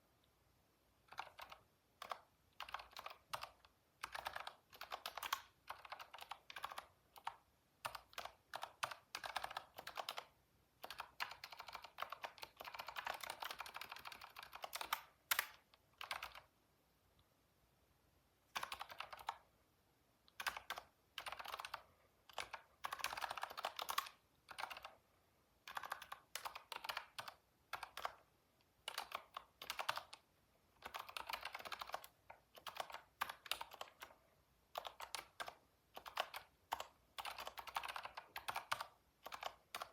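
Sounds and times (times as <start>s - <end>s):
keyboard typing: 1.0s - 16.5s, 18.5s - 19.5s, 20.2s - 25.0s, 25.6s - 39.9s.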